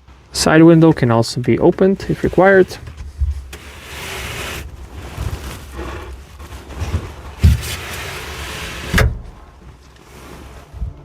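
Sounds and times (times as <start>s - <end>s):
sliding window scraping along track: 1.6s - 10.8s.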